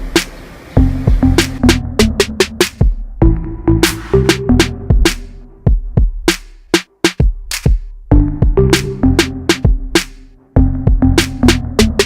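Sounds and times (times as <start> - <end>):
electronic hip-hop beat: 0.0 - 12.0.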